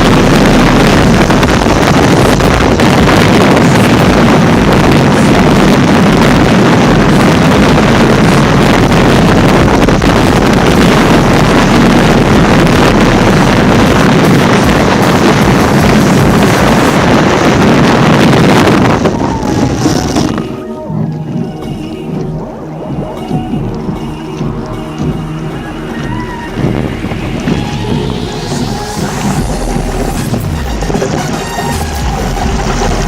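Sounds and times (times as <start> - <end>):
rushing water: 0.0 - 33.0
wind buffeting microphone: 0.0 - 33.0.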